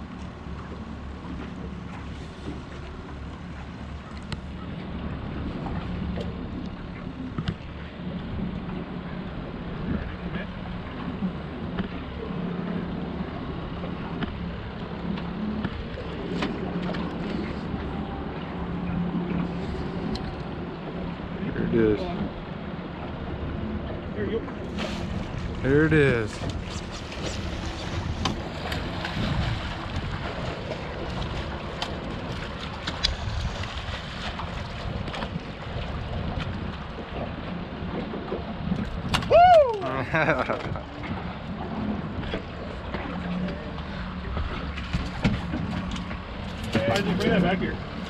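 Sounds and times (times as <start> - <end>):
outboard motor idling: 0.0 - 48.0
water noise: 0.0 - 48.0
wind: 0.0 - 48.0.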